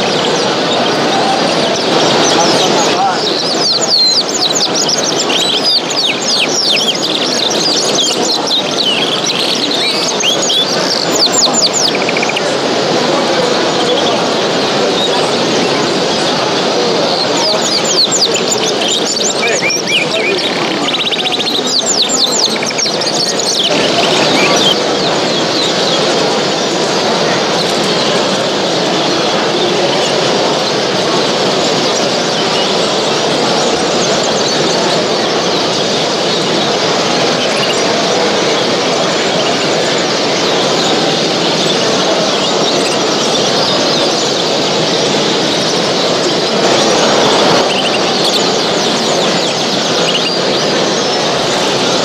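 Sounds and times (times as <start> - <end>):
caged birds chirping: 0.0 - 52.0
dense background din: 0.0 - 52.0.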